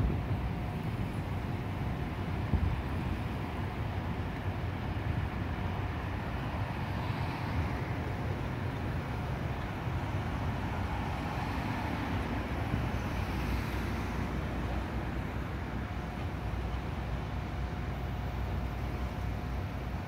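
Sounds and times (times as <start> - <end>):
road traffic noise: 0.0 - 20.0
tram running on track: 0.0 - 20.0.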